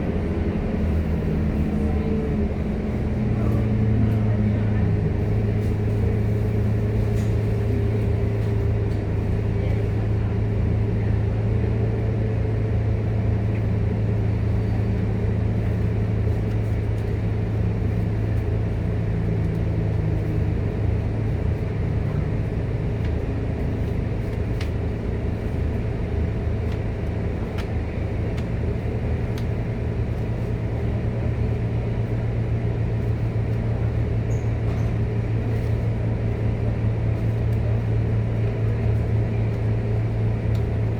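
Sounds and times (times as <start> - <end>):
bus engine droning: 0.0 - 40.9
road noise rumble: 0.0 - 40.9.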